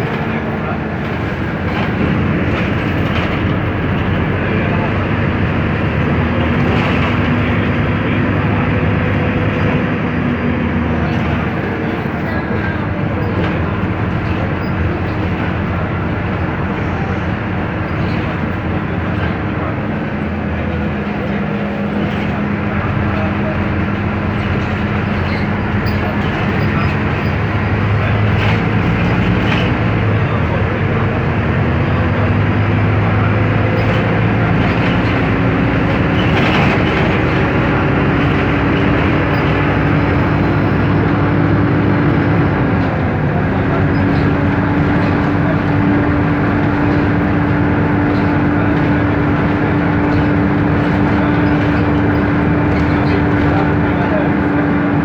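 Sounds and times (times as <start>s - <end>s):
bus diesel engine drone: 0.0s - 55.0s
road and body noise: 0.0s - 55.0s.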